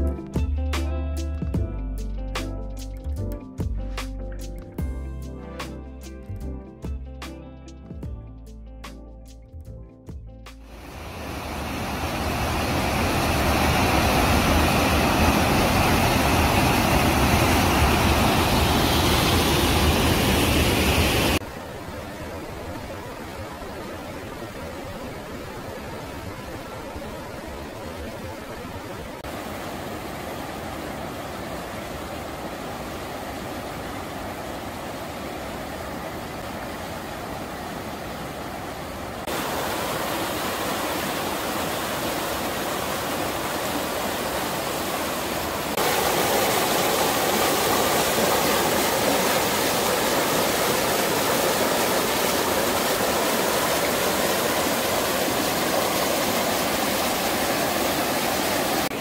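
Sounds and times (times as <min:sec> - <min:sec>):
river water rushing over stones: 0:10.7 - 0:59.0.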